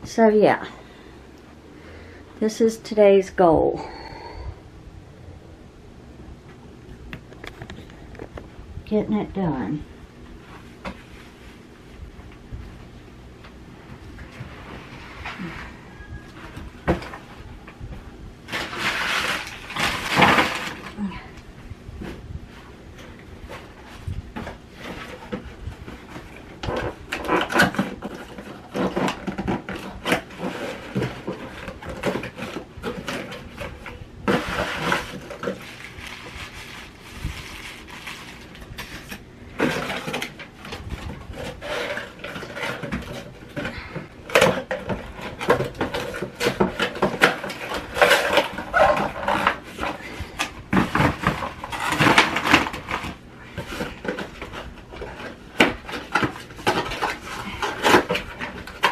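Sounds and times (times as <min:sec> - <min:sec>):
cardboard boxes rustling and scraping: 0:10.3 - 0:13.0, 0:13.8 - 0:58.9.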